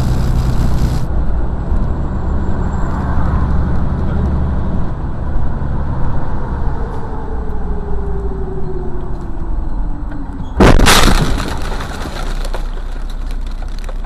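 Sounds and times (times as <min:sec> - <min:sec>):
road noise: 0:00.0 - 0:14.0
truck engine rumble: 0:00.0 - 0:14.0.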